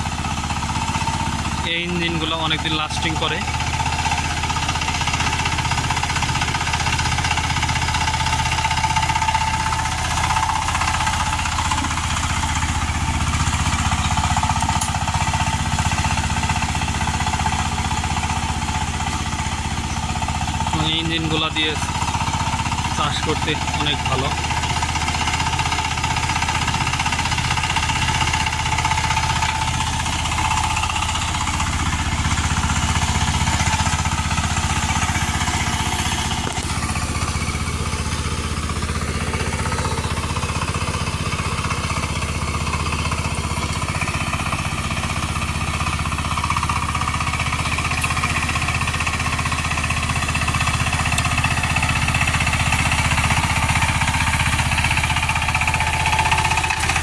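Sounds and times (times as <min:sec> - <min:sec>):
diesel engine running under load: 0:00.0 - 0:57.0
rotary tiller in flooded field: 0:00.0 - 0:57.0.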